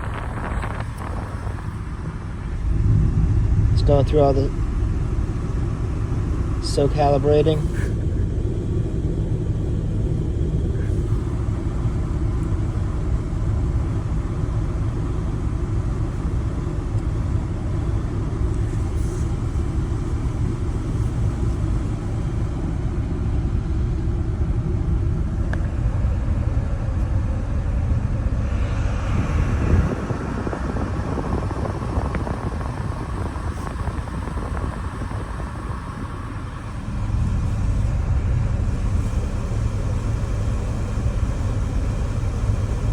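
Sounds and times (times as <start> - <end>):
car blower fan rumbling: 0.0 - 42.9
car engine idling: 0.0 - 42.9.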